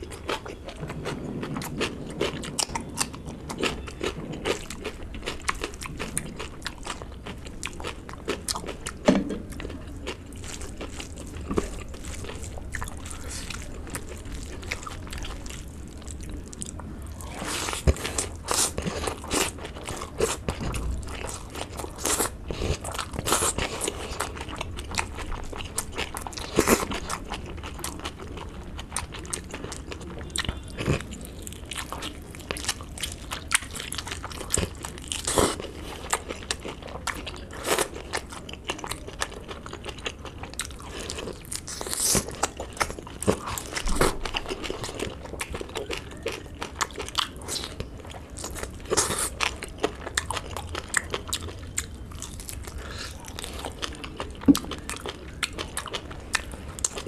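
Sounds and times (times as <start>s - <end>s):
close chewing and crunchy bites: 0.0s - 57.0s.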